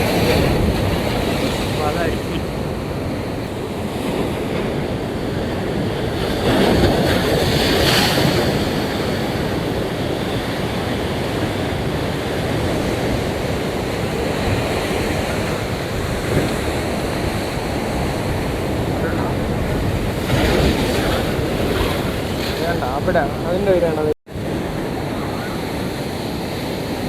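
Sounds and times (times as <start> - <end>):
sea waves breaking: 0.0 - 27.0
wind buffeting microphone: 0.0 - 27.0.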